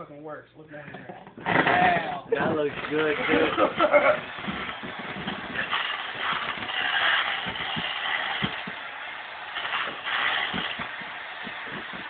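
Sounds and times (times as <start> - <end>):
power drill mashing potatoes: 1.4 - 12.0.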